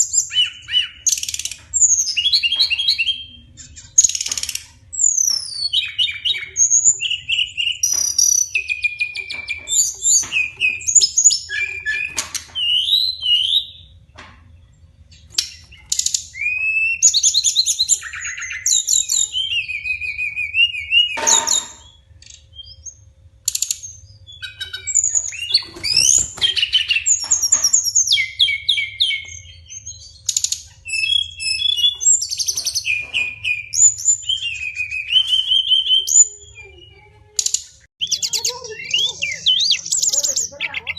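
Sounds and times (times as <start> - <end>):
bird singing whistled phrases: 0.0 - 4.0, 5.0 - 13.9, 15.4 - 23.0, 23.8 - 37.1, 38.0 - 40.9.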